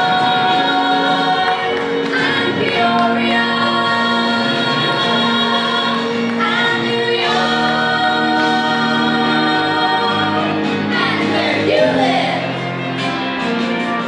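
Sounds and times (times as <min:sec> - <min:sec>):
singers in close harmony: 0:00.0 - 0:13.0
band playing: 0:00.0 - 0:14.0.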